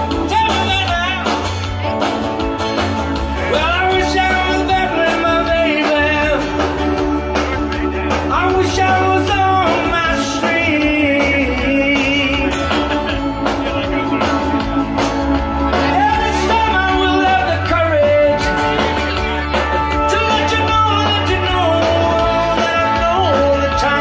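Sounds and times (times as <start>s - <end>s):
person singing: 0.0s - 1.8s, 3.2s - 14.7s, 15.4s - 24.0s
rock band playing: 0.0s - 24.0s.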